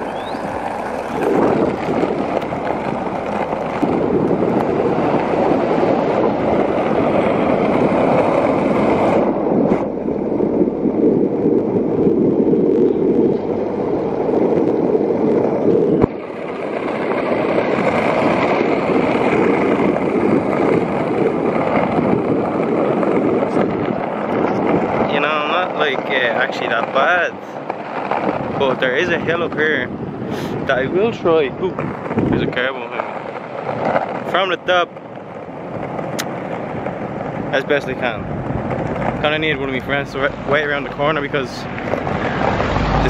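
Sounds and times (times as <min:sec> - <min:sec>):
small wheels rolling on tarmac: 0:00.0 - 0:43.0
wind on microphone: 0:00.0 - 0:43.0.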